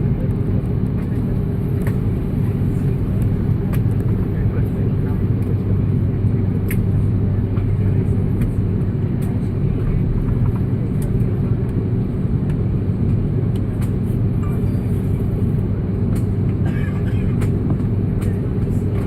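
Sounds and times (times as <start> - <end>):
aircraft cabin low rumble: 0.0 - 19.0.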